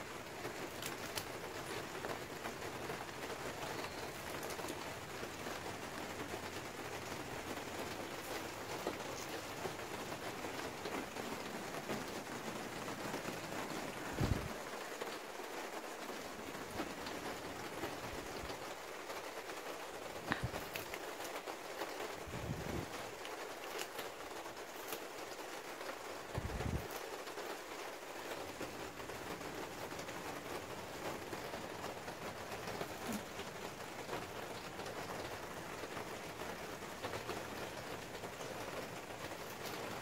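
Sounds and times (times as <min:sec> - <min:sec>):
rain on plastic panels: 0:00.0 - 0:40.0.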